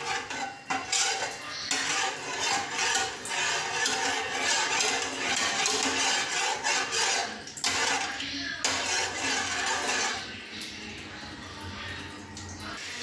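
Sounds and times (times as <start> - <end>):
spoon stirring in a metal saucepan: 0.0 - 13.0.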